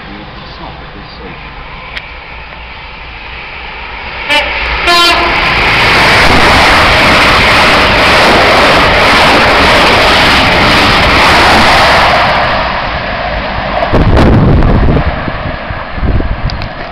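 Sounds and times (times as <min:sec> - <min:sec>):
train passing at speed: 0:00.0 - 0:16.9.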